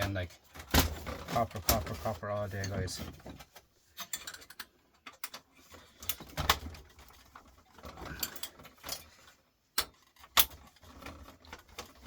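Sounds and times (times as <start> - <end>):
small metal parts rattling: 0.0 - 12.0.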